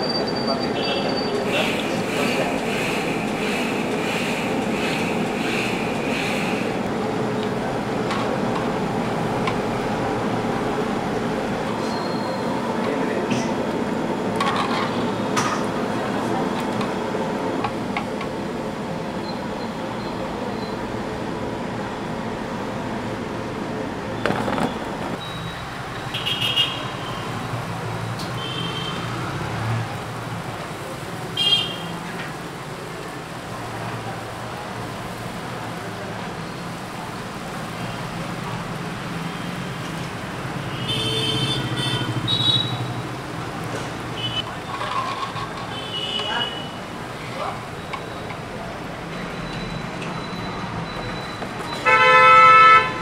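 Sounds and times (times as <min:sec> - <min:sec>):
street traffic: 0:00.0 - 0:53.0.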